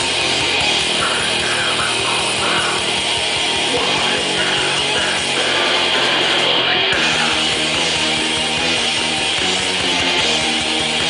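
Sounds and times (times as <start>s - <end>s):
heavy metal band playing live: 0.0s - 11.0s.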